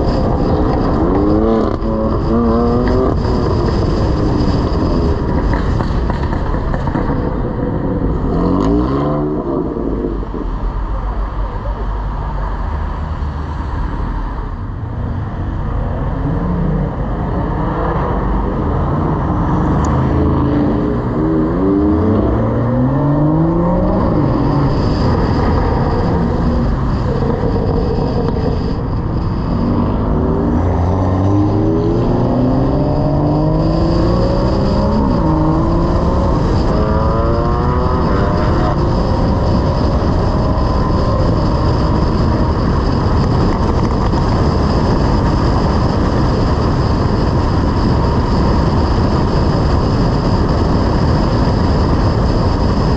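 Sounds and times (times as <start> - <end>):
car engine accelerating hard: 0.0 - 52.9
road and wind noise: 0.0 - 52.9.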